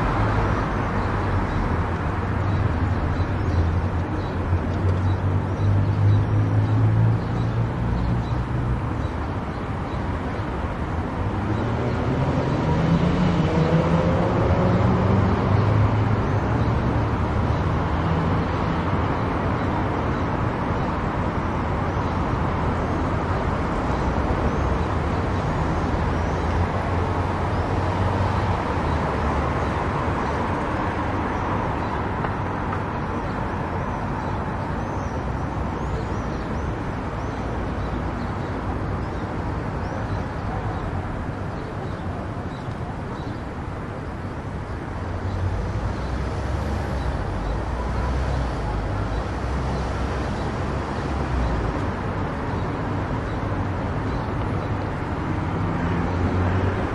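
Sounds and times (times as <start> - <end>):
car tyre and engine noise: 0.0 - 56.9.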